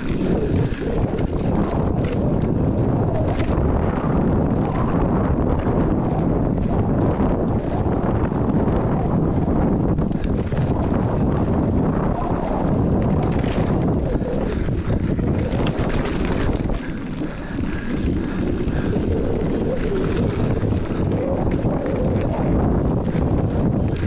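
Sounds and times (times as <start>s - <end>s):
bike knocking and rattling: 0.0s - 24.0s
tyres rumbling on loose ground: 0.0s - 24.0s
wind buffeting microphone: 0.0s - 24.0s.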